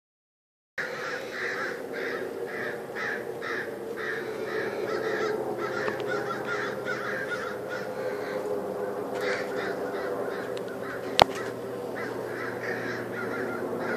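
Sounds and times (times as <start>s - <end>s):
crows cawing: 0.8s - 13.9s.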